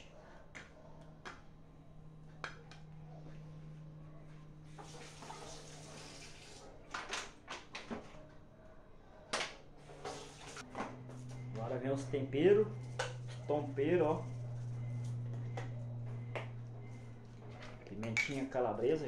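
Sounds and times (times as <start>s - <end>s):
steady low hum: 0.0s - 6.9s, 8.0s - 19.0s.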